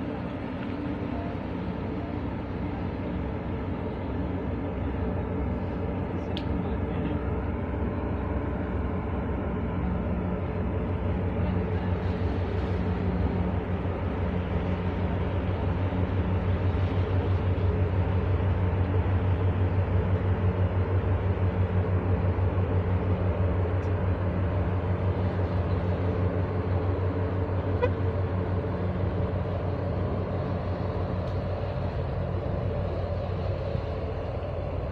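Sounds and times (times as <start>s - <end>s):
ship engine throbbing rumble: 0.0s - 34.9s.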